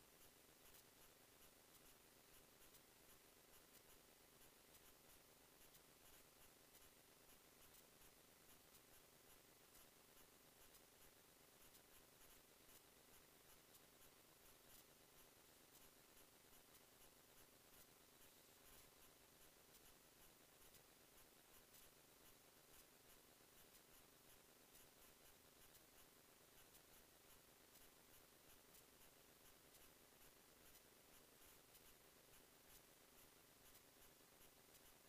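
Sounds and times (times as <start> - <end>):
faint hiss: 0.0 - 35.0
faint irregular ticks: 0.0 - 35.0.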